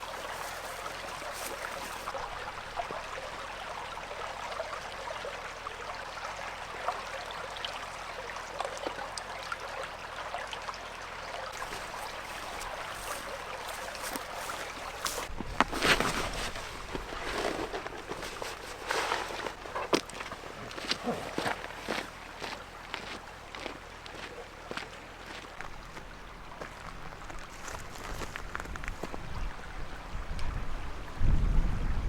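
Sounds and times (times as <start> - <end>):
stream running water: 0.0 - 32.0.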